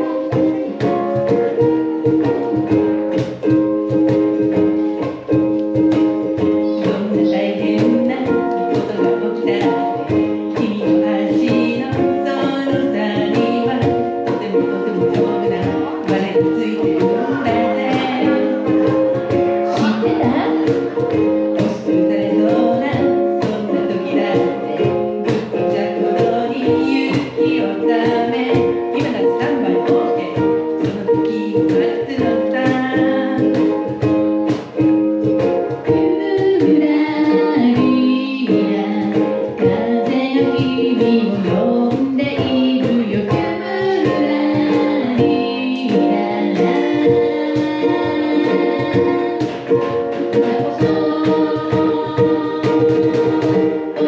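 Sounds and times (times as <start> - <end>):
ukuleles strumming: 0.0 - 54.0
people singing together: 6.3 - 34.0, 35.7 - 54.0.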